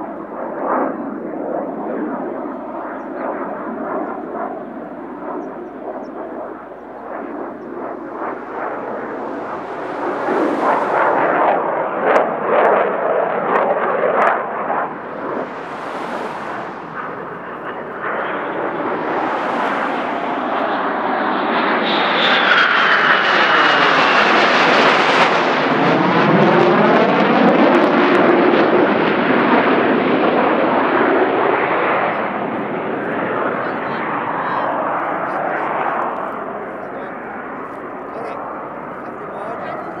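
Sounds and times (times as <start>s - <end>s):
jet flying past: 0.0s - 40.0s
falling jet whine: 6.1s - 40.0s.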